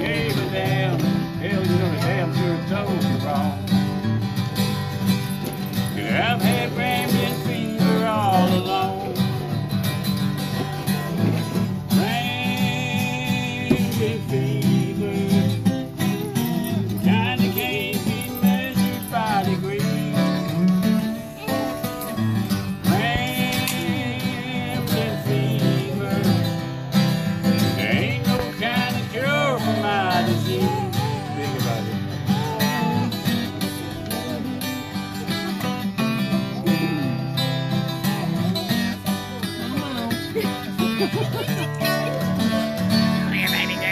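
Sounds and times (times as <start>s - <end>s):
acoustic guitars strumming: 0.0s - 43.9s.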